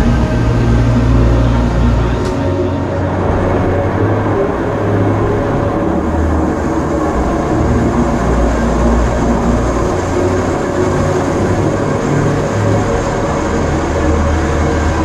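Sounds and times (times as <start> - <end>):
electric railcar hum and rumble: 0.0 - 15.0.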